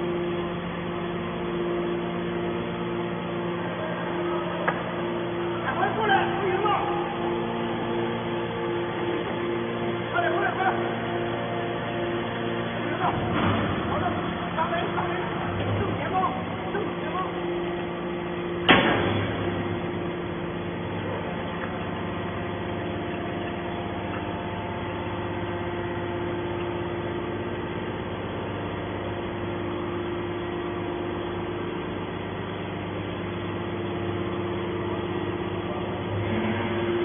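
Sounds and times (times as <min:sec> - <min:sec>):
hydraulic baler humming: 0:00.0 - 0:37.0.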